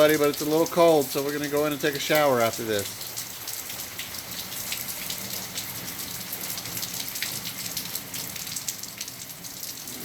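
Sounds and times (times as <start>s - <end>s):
raindrops ticking close by: 0.0s - 10.0s
steady rain hiss: 0.0s - 10.0s.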